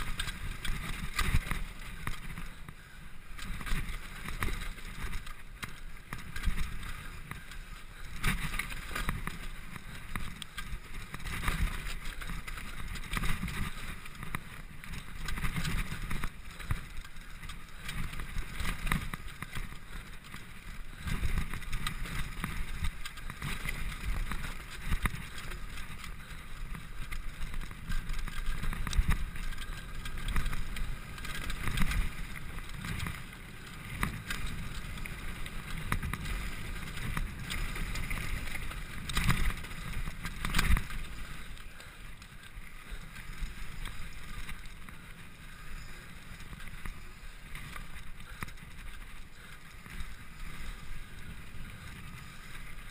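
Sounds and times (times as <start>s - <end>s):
bike rattling and clattering: 0.0s - 52.9s
bike tyres rolling over dirt: 0.0s - 52.9s.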